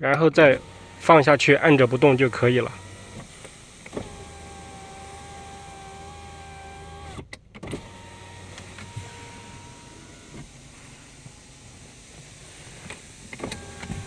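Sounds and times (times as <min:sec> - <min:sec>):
window motor click: 0:00.1 - 0:10.5, 0:12.8 - 0:14.0
power window motor whining: 0:00.1 - 0:14.0.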